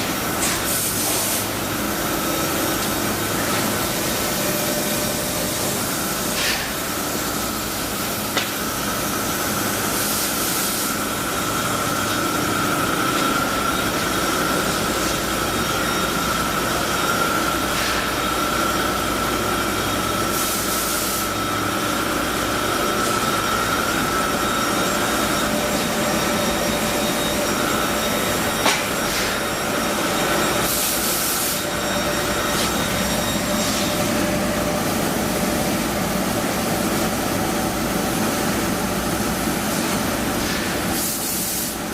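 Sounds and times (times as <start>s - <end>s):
laser cutter hum and whine: 0.0s - 41.9s.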